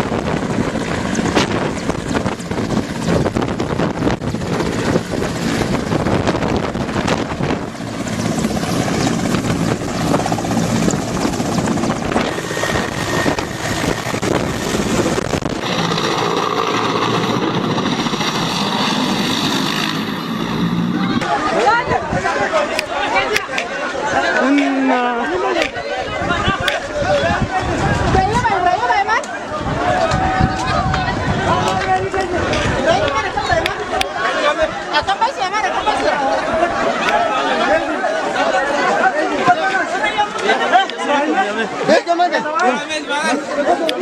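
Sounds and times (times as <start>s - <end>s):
helicopter rotor chop and turbine: 0.0s - 44.0s.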